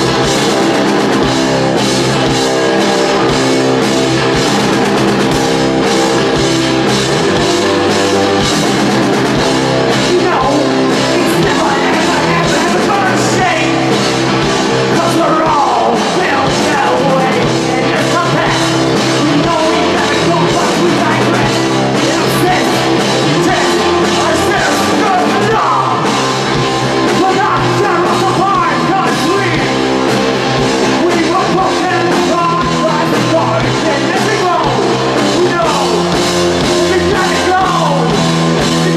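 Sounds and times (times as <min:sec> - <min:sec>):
distorted electric guitar: 0:00.0 - 0:38.9
drum kit: 0:00.0 - 0:38.9
electric bass: 0:00.0 - 0:38.9
man singing and yelling: 0:02.2 - 0:38.9.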